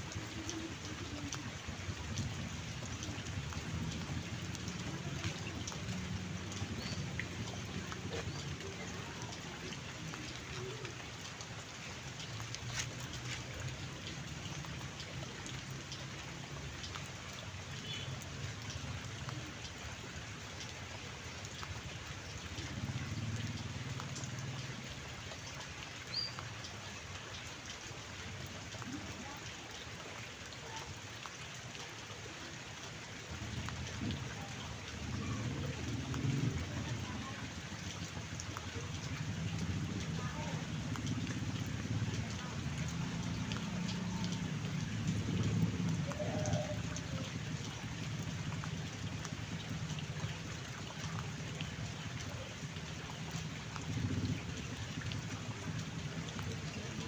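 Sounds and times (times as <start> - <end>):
raindrop ticks: 0.0 - 57.0
steady rain falling: 0.0 - 57.0.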